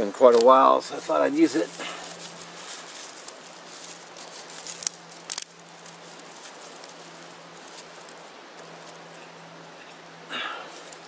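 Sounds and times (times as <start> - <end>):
small fire crackling in stove: 0.0 - 11.0.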